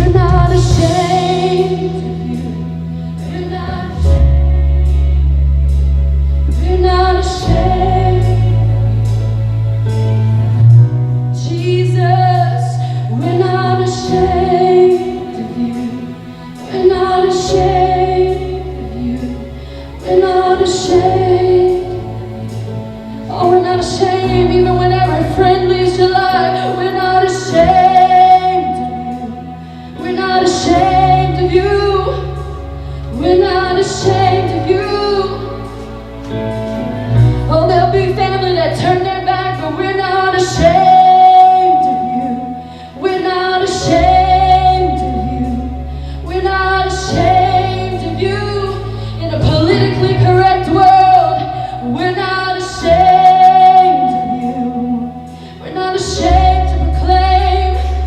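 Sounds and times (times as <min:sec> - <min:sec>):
woman singing: 0:00.0 - 0:05.0, 0:06.5 - 0:08.8, 0:11.4 - 0:22.5, 0:23.3 - 0:36.0, 0:37.5 - 0:58.0
long held bass notes: 0:00.0 - 0:58.0
worship band playing slow song: 0:00.0 - 0:58.0.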